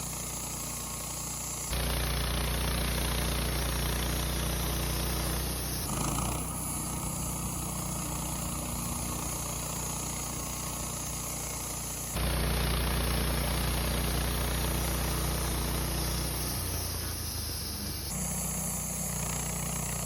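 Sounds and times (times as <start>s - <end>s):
sawmill running: 0.0s - 20.0s.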